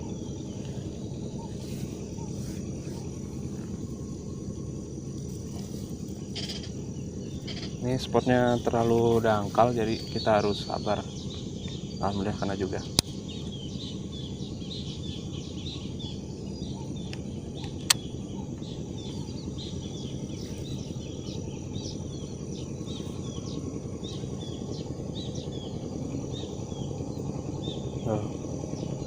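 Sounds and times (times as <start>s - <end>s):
outdoor background noise: 0.0s - 29.0s
small birds chirping: 0.0s - 29.0s.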